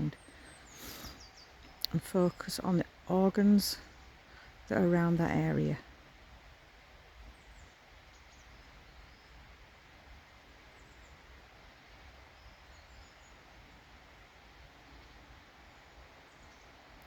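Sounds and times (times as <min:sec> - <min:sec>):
faint low background: 0:00.0 - 0:17.0.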